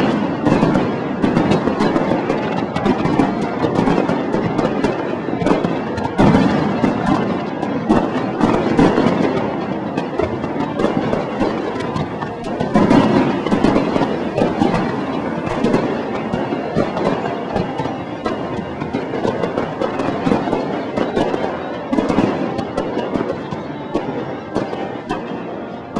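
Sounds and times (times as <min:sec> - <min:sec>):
fireworks crackling and banging: 0:00.0 - 0:25.9
heavy firework booms: 0:00.0 - 0:25.9.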